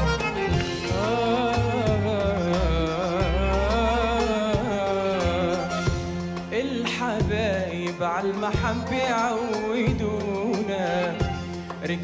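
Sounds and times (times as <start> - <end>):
steady bass notes: 0.0 - 12.0
man singing ornamented line: 0.3 - 12.0.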